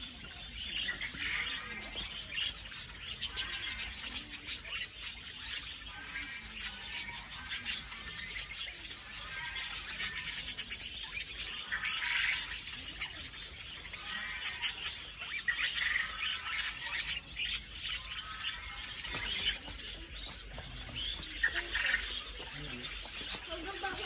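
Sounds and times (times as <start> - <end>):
budgerigars chirping and warbling: 0.0 - 24.0.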